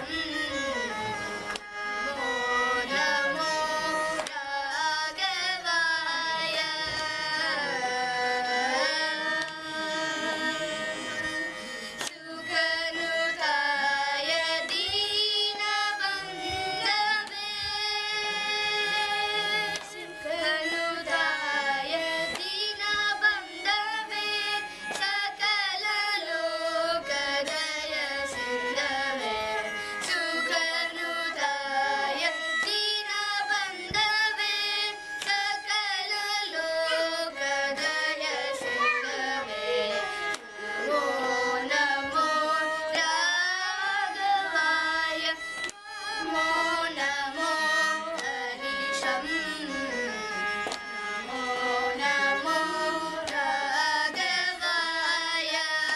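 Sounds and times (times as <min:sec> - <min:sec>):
bowed violin: 0:00.0 - 0:55.9
children singing in unison: 0:02.7 - 0:55.9.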